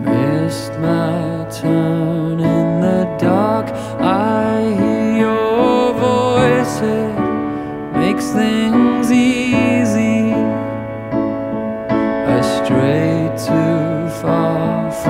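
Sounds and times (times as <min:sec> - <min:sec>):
slow piano song: 0:00.0 - 0:15.0.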